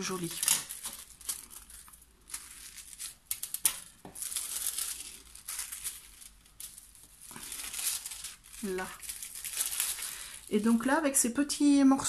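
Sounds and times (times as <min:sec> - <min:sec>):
foil crinkling and rustling: 0:00.0 - 0:11.3.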